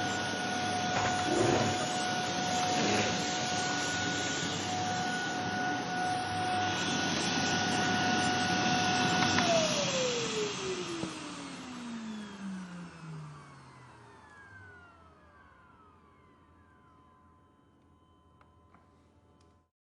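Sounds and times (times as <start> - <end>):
vacuum cleaner running: 0.0 - 17.4.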